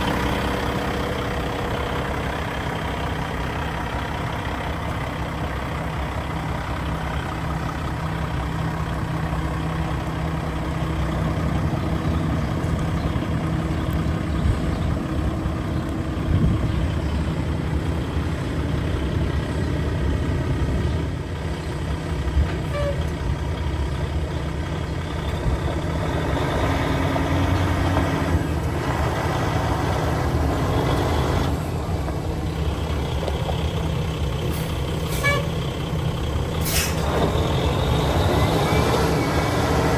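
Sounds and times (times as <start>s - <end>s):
truck diesel engine humming: 0.0s - 39.9s.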